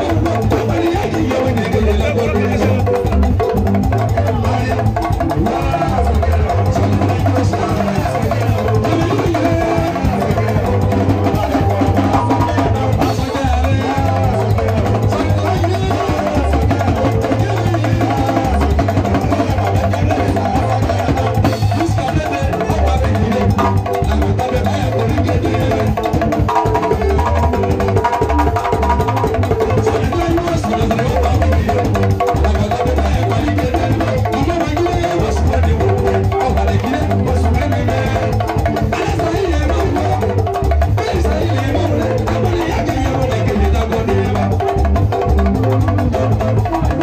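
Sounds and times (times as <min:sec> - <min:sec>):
drums and percussion: 0:00.0 - 0:47.0
steady bass line: 0:00.0 - 0:47.0.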